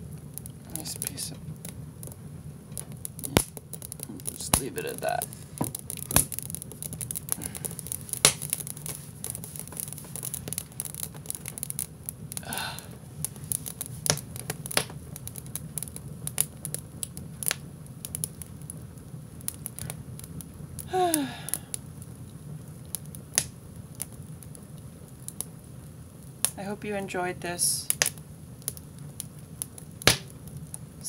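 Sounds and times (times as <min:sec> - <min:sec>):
steady low hum: 0:00.0 - 0:31.0
wood fire crackling and popping: 0:00.0 - 0:31.0.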